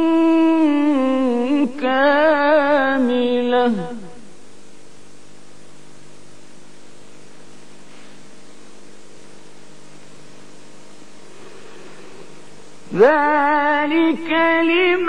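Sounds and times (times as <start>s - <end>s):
low electrical hum: 0.0s - 15.0s
steady hiss: 0.0s - 15.0s.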